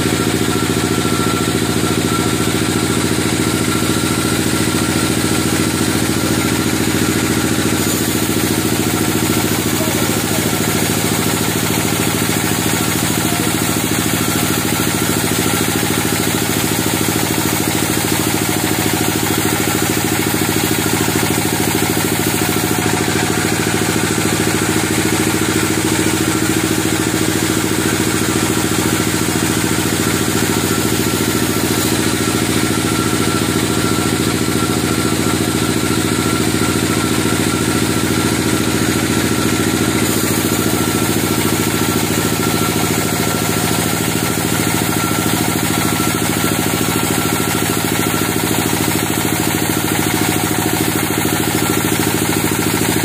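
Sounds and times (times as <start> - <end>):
band sawmill sawing log: 0.0 - 53.0.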